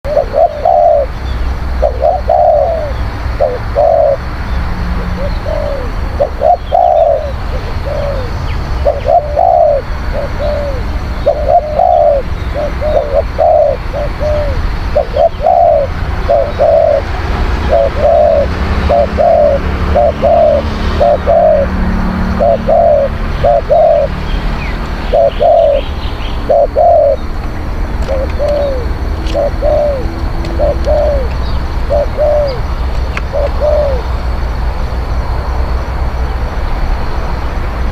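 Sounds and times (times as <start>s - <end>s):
doves cooing: 0.0s - 4.3s, 4.9s - 34.3s
steady low rumble: 0.1s - 37.9s.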